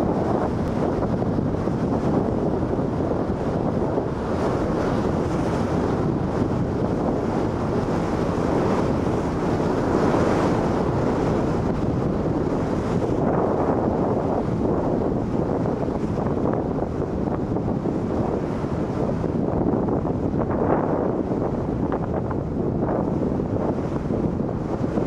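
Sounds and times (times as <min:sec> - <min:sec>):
rush of water and waves: 0:00.0 - 0:25.0
wind buffeting microphone: 0:00.0 - 0:25.0.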